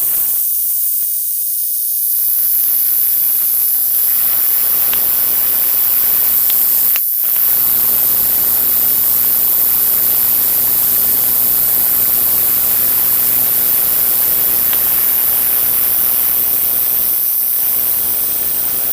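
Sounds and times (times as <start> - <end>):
electrical buzzing hiss: 0.0 - 18.9
high-pitched whine: 0.0 - 18.9
low mains hum: 0.0 - 18.9.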